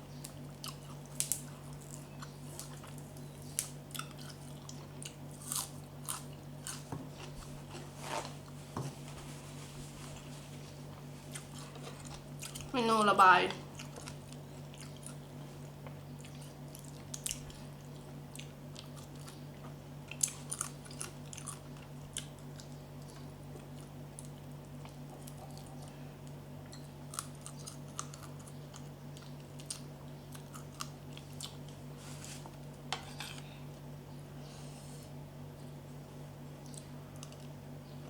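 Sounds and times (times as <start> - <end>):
steady low hum: 0.0 - 38.0
person chewing crunchy food: 0.2 - 8.6, 10.0 - 12.8, 13.6 - 33.6.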